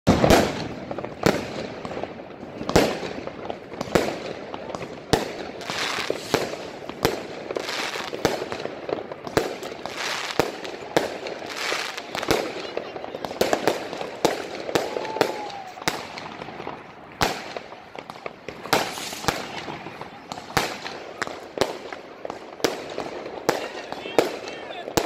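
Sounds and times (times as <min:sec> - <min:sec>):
fireworks banging: 0:00.1 - 0:25.0
fireworks crackling: 0:00.1 - 0:25.0.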